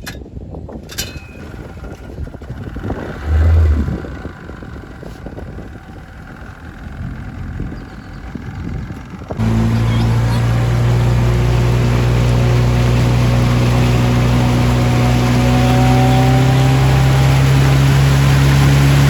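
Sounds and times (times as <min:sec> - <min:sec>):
wind buffeting microphone: 0:00.0 - 0:19.0
boat engine running: 0:01.3 - 0:19.0.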